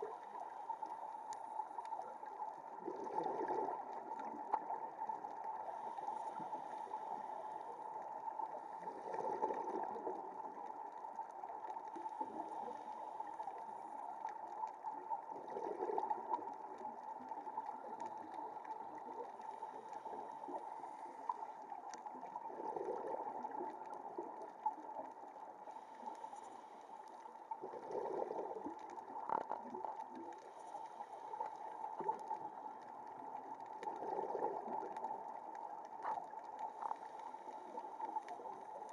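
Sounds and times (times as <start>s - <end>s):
muffled underwater hiss and rumble: 0.0s - 38.9s
scuba exhaust bubbles gurgling: 0.0s - 38.9s.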